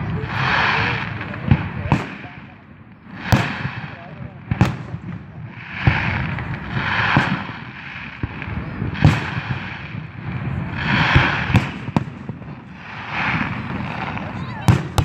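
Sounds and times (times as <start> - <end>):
fireworks bangs: 0.0 - 15.0
fireworks hissing crackle: 0.0 - 15.0.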